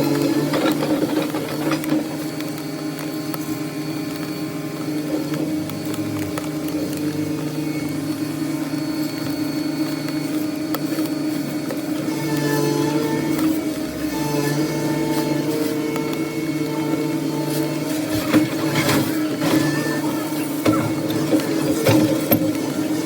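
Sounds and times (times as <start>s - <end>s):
heavy machine engine humming: 0.0s - 23.0s.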